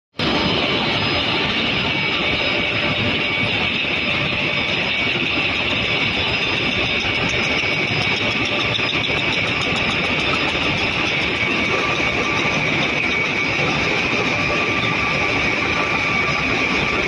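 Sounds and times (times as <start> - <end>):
machine clattering: 0.2 - 17.0
thin machine whine: 0.2 - 17.0.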